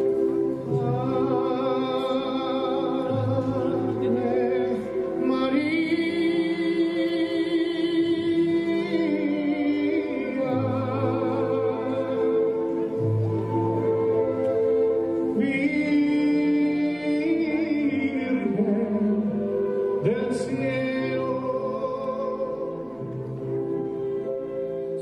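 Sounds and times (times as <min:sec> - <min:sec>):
operatic singing voice: 0:00.4 - 0:13.0, 0:15.3 - 0:23.2.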